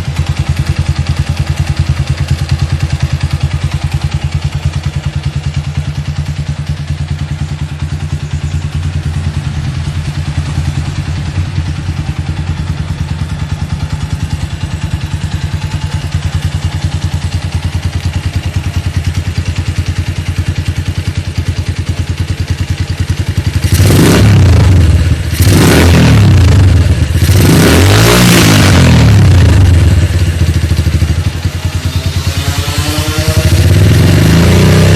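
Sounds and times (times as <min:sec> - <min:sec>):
motorcycle idling and revving: 0:00.0 - 0:34.9.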